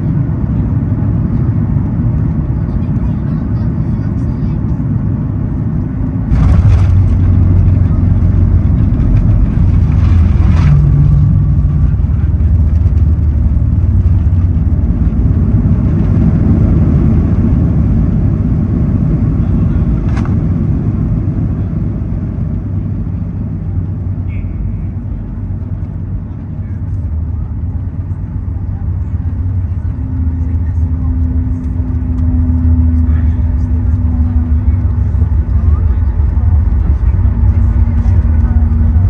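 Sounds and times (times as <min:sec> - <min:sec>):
jet engines and wheels rumbling: 0:00.0 - 0:39.0.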